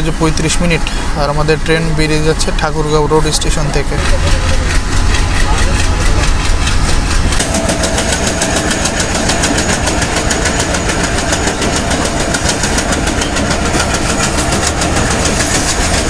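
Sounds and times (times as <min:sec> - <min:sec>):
train wheels and wind rumbling: 0:00.0 - 0:16.0.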